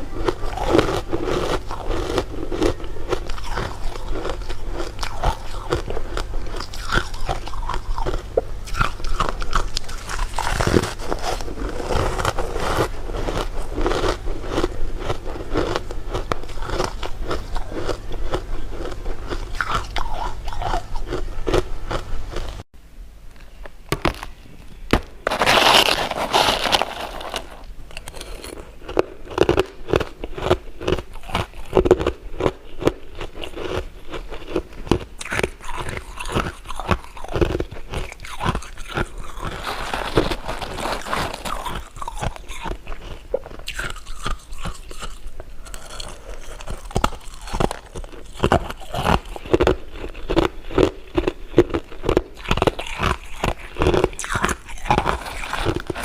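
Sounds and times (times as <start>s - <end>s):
crunching bites and chewing: 0.0s - 22.6s, 23.9s - 24.3s, 24.9s - 56.0s.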